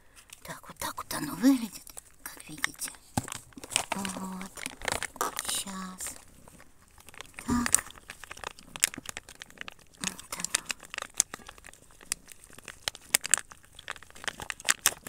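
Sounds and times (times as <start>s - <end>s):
cats lapping and chewing: 0.0s - 15.0s
food pouch crinkling: 1.1s - 15.0s.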